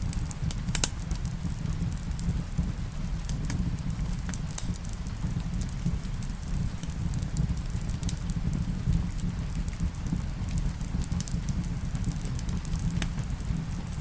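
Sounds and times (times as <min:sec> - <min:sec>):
rain: 0:00.0 - 0:14.0
wood fire crackling: 0:00.0 - 0:14.0.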